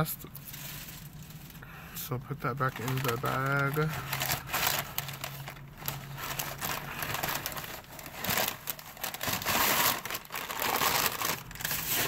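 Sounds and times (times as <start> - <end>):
paper bag rustling: 0.4 - 1.6, 2.4 - 12.0.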